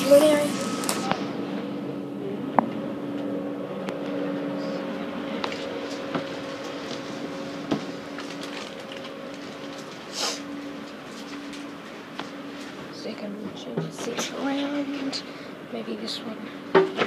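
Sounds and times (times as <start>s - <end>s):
train interior hum: 0.0s - 15.8s.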